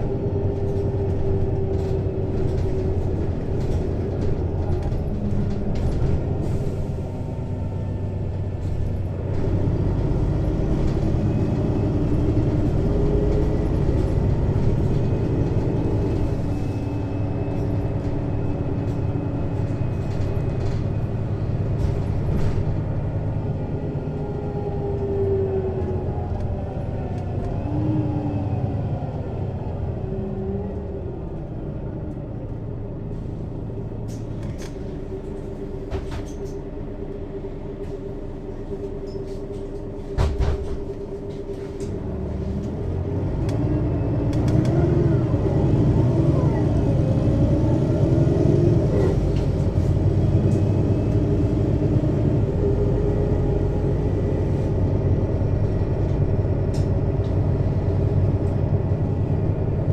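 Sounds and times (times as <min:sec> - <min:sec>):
bus engine and gearbox: 0:00.0 - 0:59.9.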